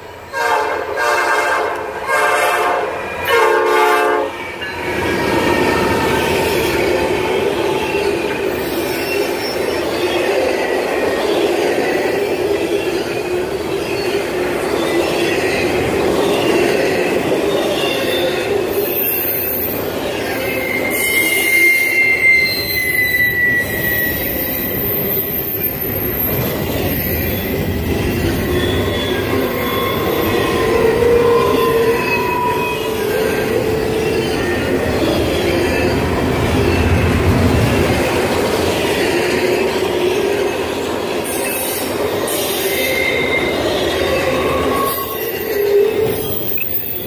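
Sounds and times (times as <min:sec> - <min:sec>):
freight train rumbling and rattling: 0:00.0 - 0:47.0
steel wheels squealing: 0:04.4 - 0:47.0.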